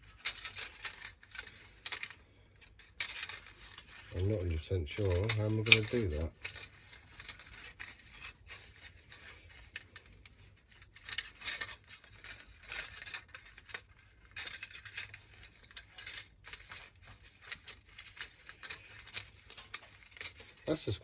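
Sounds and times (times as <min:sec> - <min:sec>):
small metal and plastic clicks: 0:00.0 - 0:04.3, 0:04.9 - 0:20.7.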